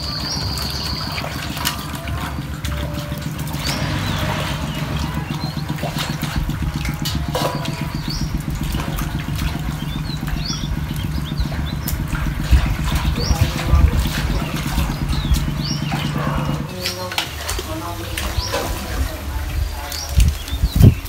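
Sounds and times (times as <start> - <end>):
high bird chirps: 0.0 - 17.1
hands splashing water in basin: 0.0 - 21.0
low pulsing engine drone: 0.0 - 21.0.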